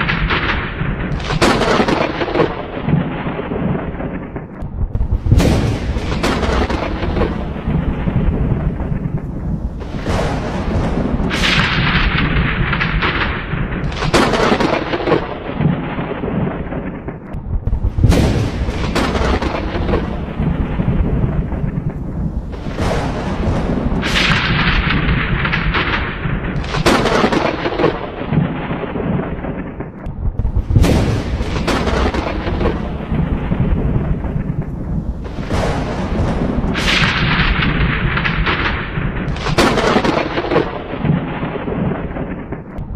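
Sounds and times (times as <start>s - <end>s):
thunder cracks and rumble: 0.0s - 42.9s.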